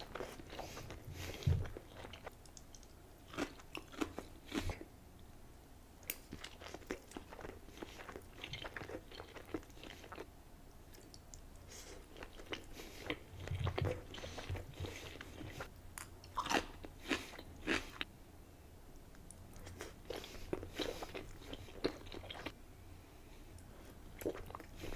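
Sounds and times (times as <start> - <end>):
person chewing: 0.0 - 4.9, 6.0 - 10.3, 10.9 - 18.1, 19.2 - 22.6, 23.5 - 24.9.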